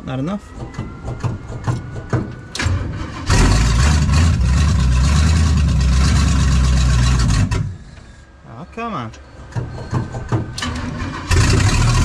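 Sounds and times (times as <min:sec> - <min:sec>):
car engine cranking and running: 0:00.6 - 0:08.0, 0:09.6 - 0:12.0.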